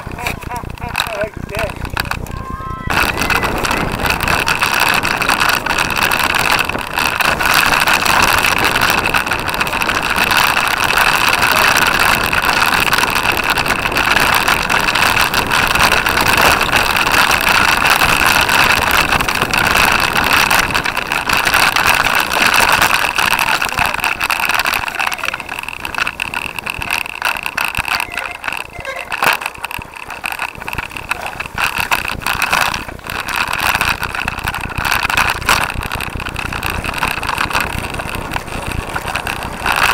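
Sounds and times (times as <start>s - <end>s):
bike rattling over bumpy ground: 0.0s - 39.9s
wind on microphone: 0.0s - 39.9s.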